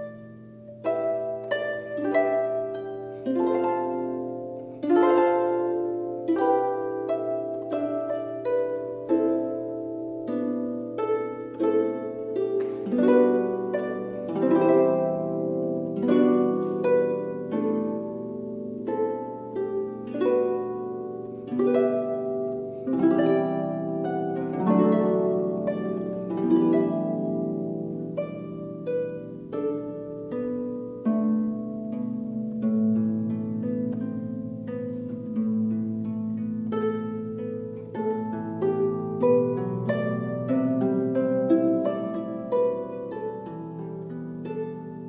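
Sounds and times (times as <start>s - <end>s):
harp melody: 0.0s - 45.0s.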